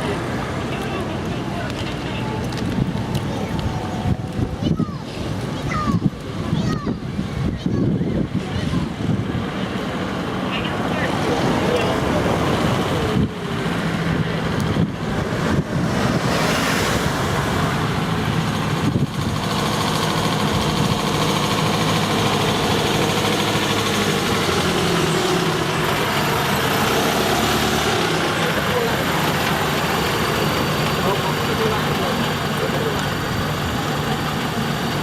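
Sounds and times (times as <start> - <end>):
truck engine idling: 0.0 - 7.5, 8.1 - 35.0.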